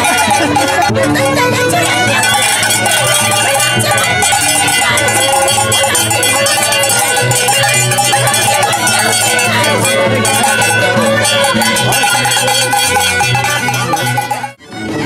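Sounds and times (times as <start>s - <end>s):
crowd chatter: 0.0s - 15.0s
traditional music with ringing tones: 0.0s - 15.0s.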